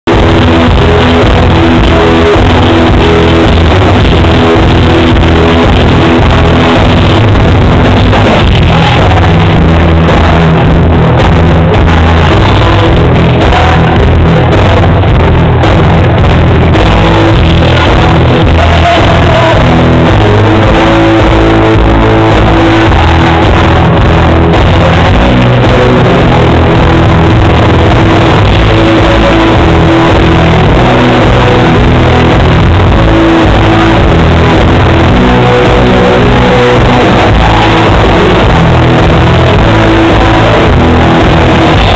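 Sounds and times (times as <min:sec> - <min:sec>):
country rock band: 0:00.0 - 0:41.9
man singing: 0:00.0 - 0:41.9.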